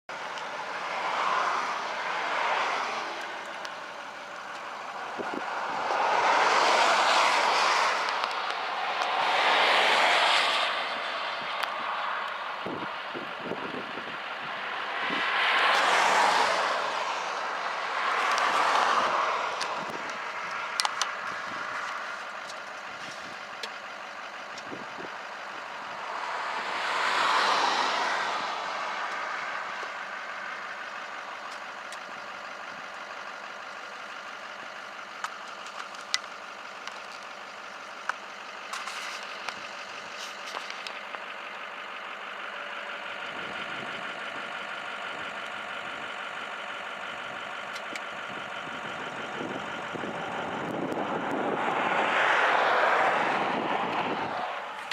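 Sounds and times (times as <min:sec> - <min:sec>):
vehicles passing: 0:00.0 - 0:54.9.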